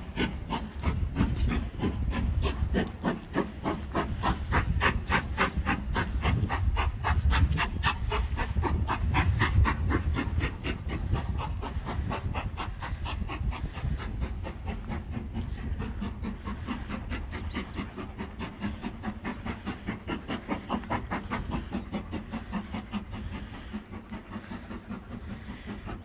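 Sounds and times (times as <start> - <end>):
low train rumble: 0.0 - 26.0
steam locomotive chuffing: 0.0 - 26.0.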